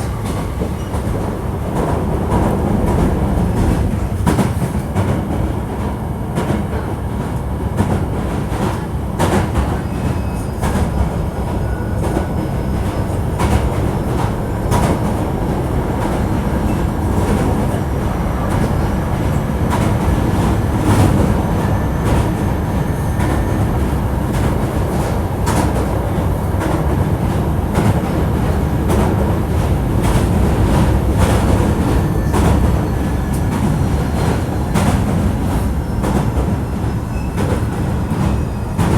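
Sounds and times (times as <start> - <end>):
train rumble from inside: 0.0 - 38.9.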